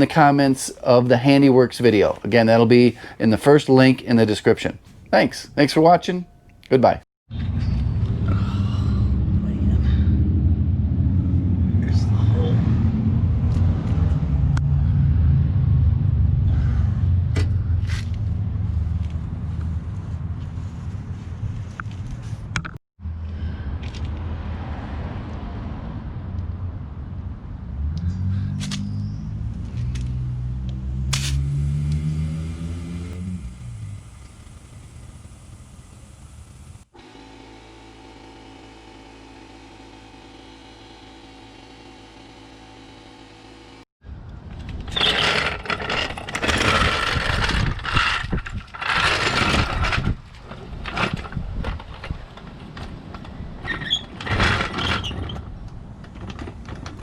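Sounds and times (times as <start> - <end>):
vehicle low rumble: 7.3 - 36.9, 38.1 - 57.0.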